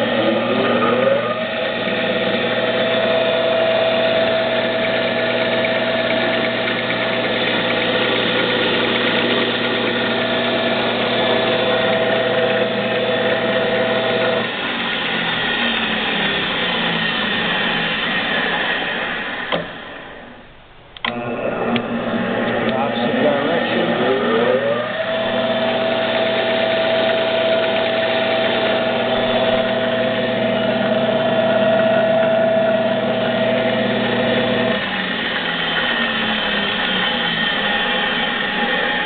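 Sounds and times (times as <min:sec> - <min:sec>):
lathe whine: 0:00.0 - 0:39.0
machine noise: 0:00.0 - 0:39.0.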